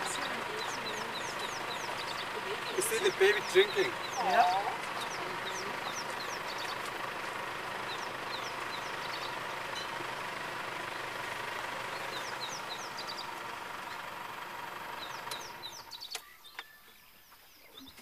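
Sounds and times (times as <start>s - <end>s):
vehicle engine running: 0.0s - 16.4s
birds chirping: 0.0s - 18.0s.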